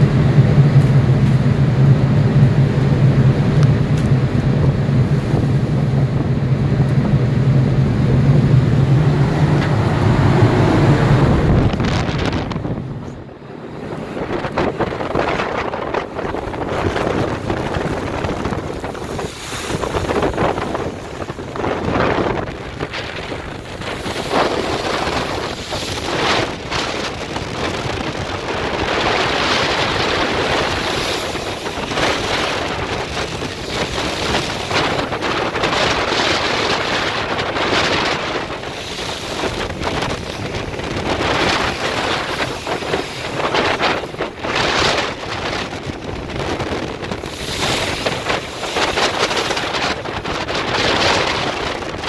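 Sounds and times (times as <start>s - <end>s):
waves breaking along hull: 0.0s - 52.0s
wind buffeting microphone: 0.0s - 52.0s.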